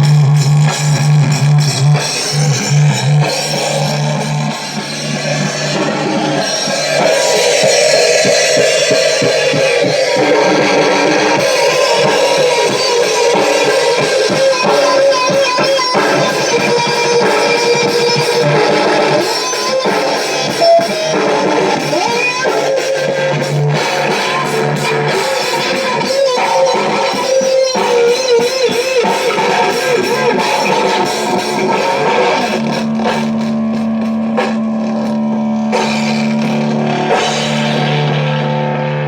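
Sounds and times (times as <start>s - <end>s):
drum kit: 0.0s - 39.0s
electric guitar: 0.0s - 39.0s.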